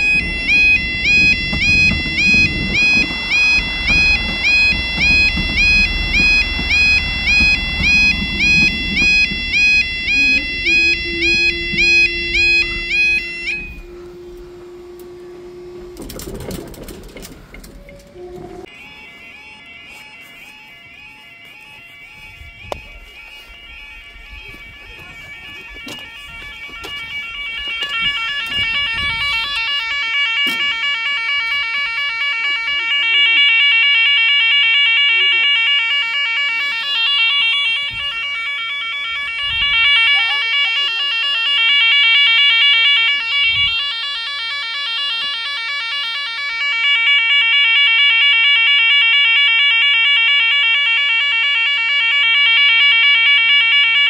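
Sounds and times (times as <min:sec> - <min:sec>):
warbling level crossing alarm: 0:00.0 - 0:54.0.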